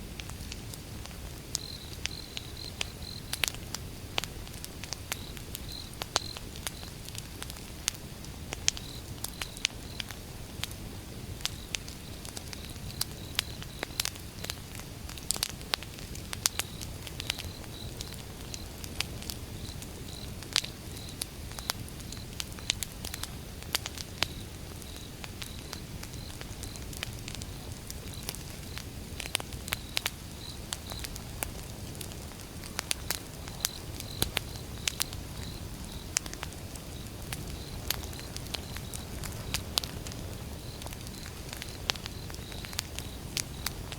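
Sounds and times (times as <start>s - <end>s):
flame rumble: 0.0s - 43.9s
wood crackling and popping: 0.1s - 43.9s.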